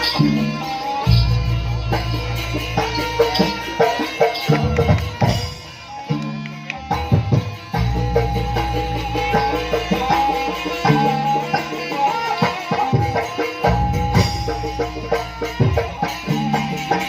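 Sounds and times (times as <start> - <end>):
hand drums beating: 0.0 - 17.0
live ensemble music: 0.0 - 17.0
sustained pitched instruments: 0.0 - 17.0.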